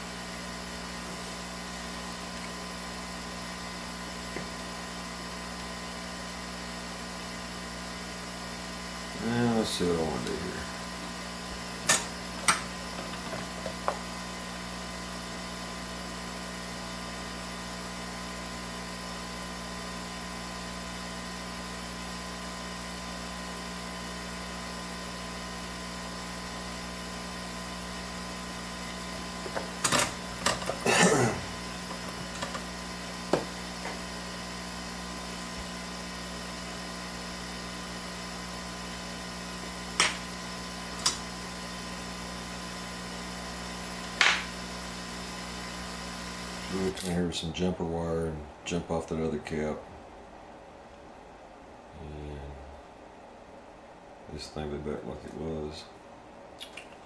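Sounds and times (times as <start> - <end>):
electrical equipment hum: 0.0 - 57.0.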